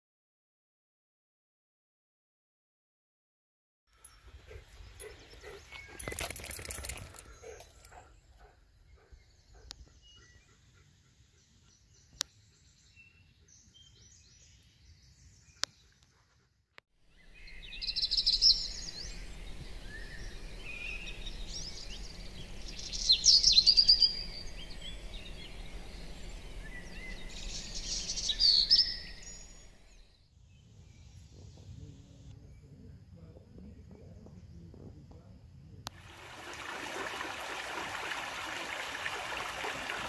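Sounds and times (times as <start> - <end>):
birds singing: 3.9 - 16.4, 17.1 - 35.0, 35.9 - 40.0.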